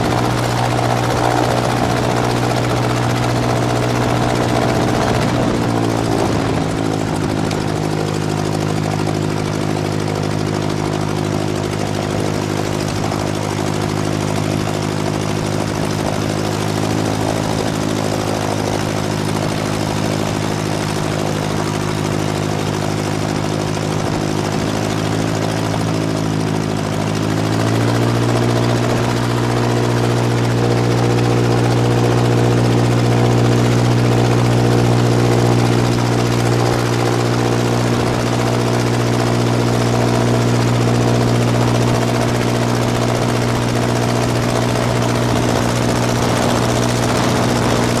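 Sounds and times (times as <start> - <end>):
propeller engine revving: 0.0 - 48.0.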